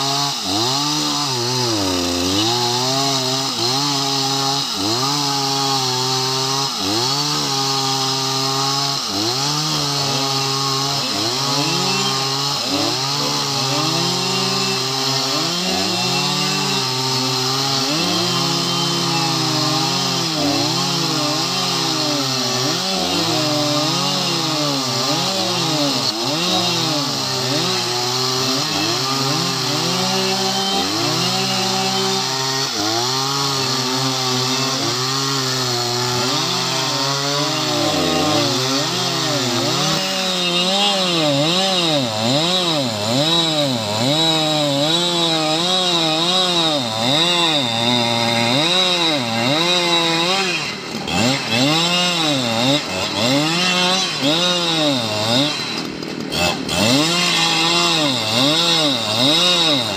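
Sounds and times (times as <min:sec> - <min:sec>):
chainsaws cutting log: 0:00.0 - 0:59.9.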